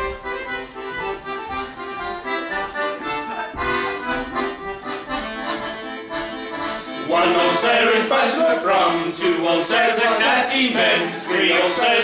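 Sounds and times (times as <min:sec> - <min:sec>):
accordion playing a tune: 0:00.0 - 0:12.0.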